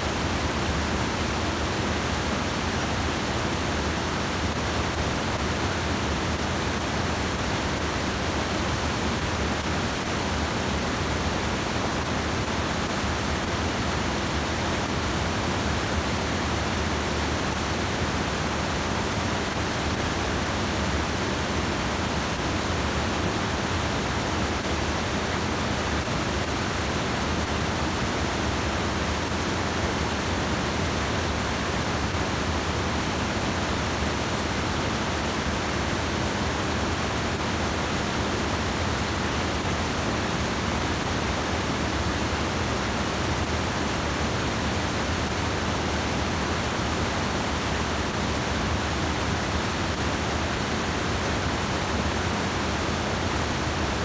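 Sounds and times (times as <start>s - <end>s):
water rushing over weir: 0.0s - 54.0s.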